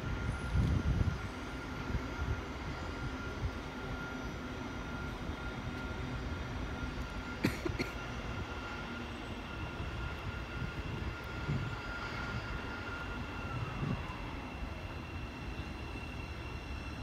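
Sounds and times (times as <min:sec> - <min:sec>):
electric whine: 0:00.0 - 0:17.0.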